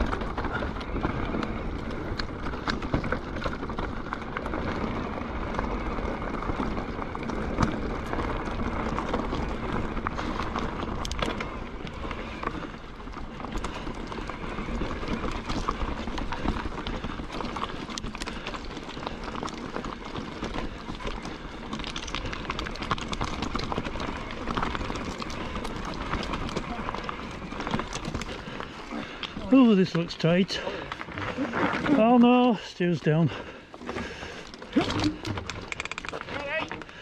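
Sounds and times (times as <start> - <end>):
bike tyres crunching on gravel: 0.0 - 37.0
stones and bike parts rattling: 0.0 - 37.0.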